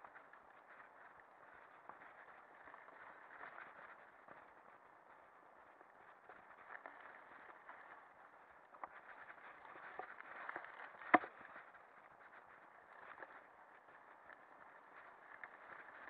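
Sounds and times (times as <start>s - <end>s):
mountain bike rattling over dirt: 0.0s - 16.0s.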